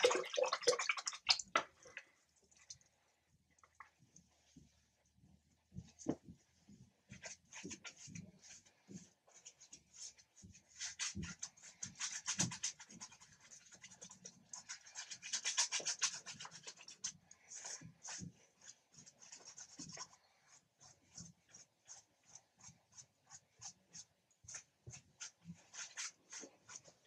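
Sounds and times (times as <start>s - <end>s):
paintbrush scrubbing on canvas: 4.0s - 27.0s.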